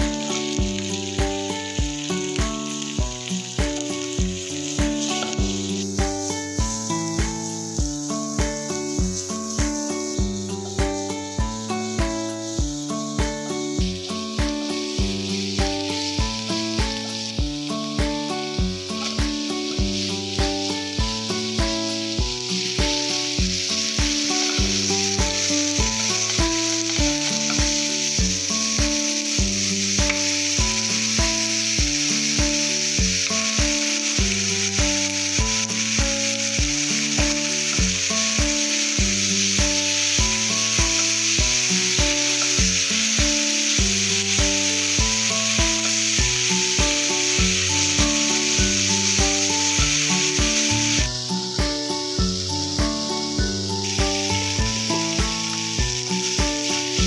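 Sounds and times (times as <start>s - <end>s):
background music with steady beat: 0.0s - 57.0s
vegetables sizzling in a wok: 0.0s - 57.0s.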